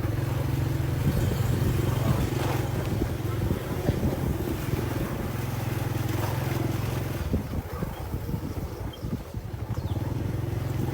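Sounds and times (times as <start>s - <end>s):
wind on microphone: 0.3s - 10.9s.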